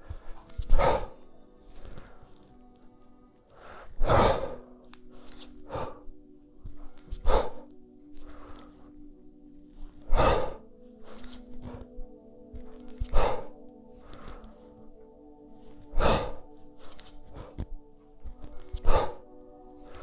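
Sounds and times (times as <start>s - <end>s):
person breathing forcefully: 0.0s - 20.0s
quiet background music: 0.0s - 20.0s.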